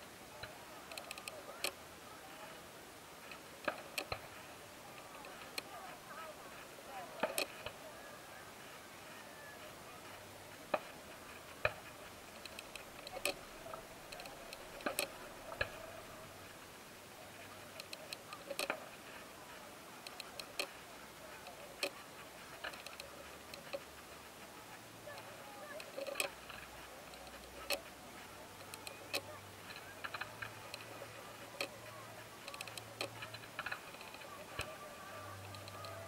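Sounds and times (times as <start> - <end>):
crowd chatter: 0.0 - 36.0
distant fireworks popping: 3.2 - 36.0.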